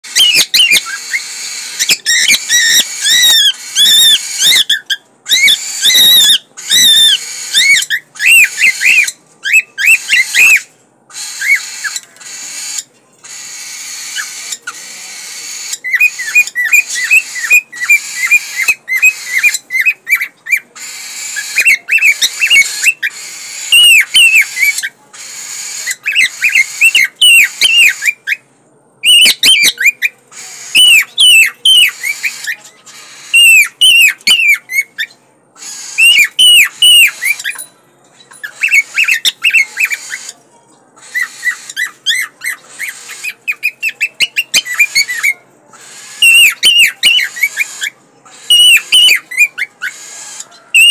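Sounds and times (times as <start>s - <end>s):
cockatiel whistling song: 0.0s - 28.4s, 29.0s - 40.4s, 41.0s - 50.9s.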